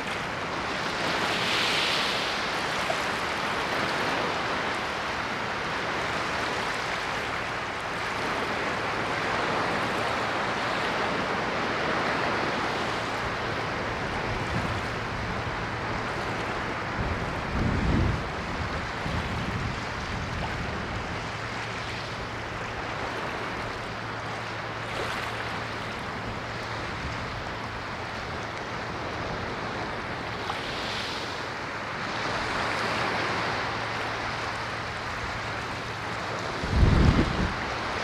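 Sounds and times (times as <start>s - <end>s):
ocean surf washing on shore: 0.0s - 38.0s.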